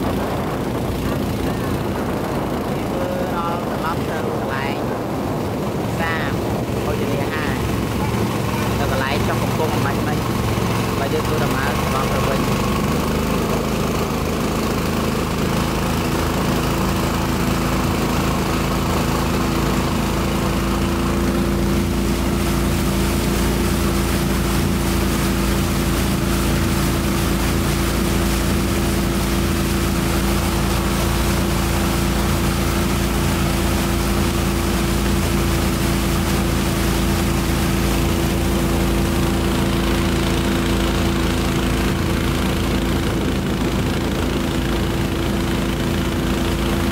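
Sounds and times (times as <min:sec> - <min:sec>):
motorboat engine running: 0:00.0 - 0:46.9
water rushing along hull: 0:00.0 - 0:46.9.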